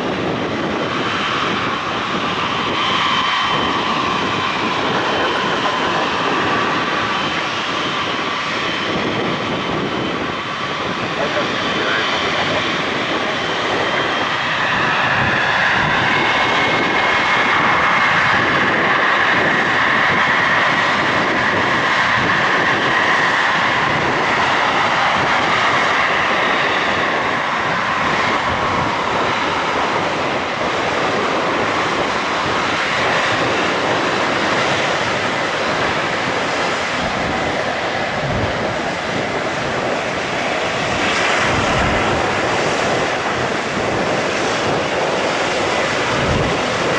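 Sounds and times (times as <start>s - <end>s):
aircraft engines rushing: 0.0s - 46.9s
high engine whine: 0.0s - 46.9s.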